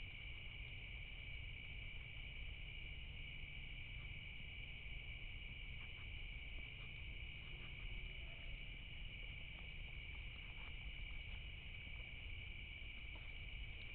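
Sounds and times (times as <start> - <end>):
faint ticks: 0.0 - 13.9
night insects trilling: 0.0 - 13.9.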